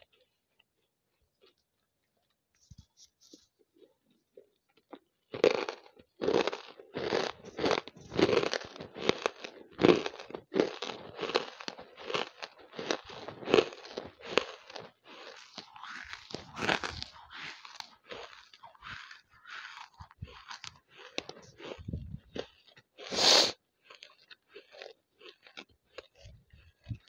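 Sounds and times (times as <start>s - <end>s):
dry crunches of chewing: 0.0s - 27.0s.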